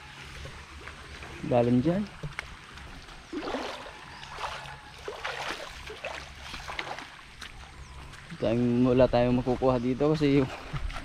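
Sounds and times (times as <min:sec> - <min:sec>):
flowing river water: 0:00.0 - 0:11.0
water splashing and sloshing: 0:00.0 - 0:11.0.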